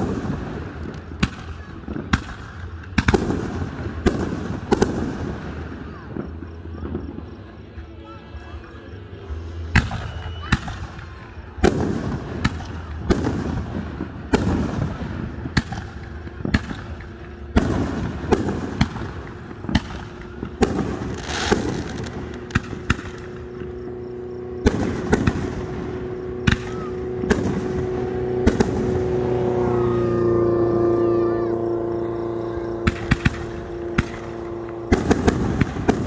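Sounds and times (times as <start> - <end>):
fireworks booming: 0.0 - 7.5, 9.5 - 36.0
fireworks crackling: 0.0 - 36.0.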